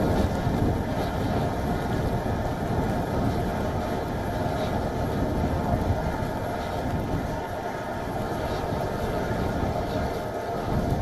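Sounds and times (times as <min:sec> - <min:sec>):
engine noise: 0:00.0 - 0:11.0
wind rumble: 0:00.0 - 0:11.0.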